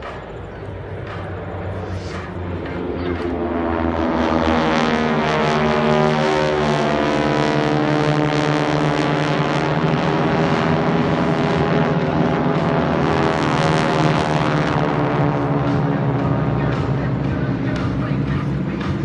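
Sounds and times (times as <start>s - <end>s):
propeller planes roaring overhead: 0.0s - 19.0s.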